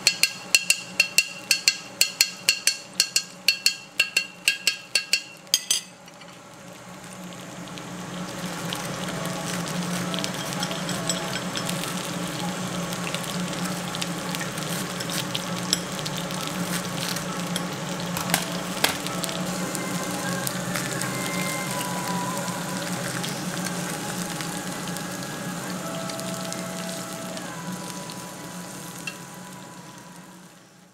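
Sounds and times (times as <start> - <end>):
meat sizzling on a grill: 0.0 - 30.9.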